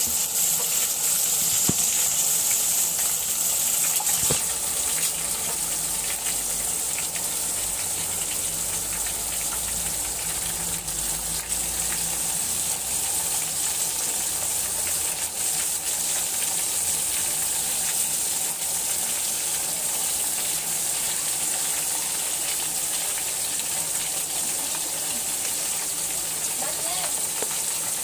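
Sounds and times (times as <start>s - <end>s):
vegetables deep-frying in oil: 0.0s - 28.0s.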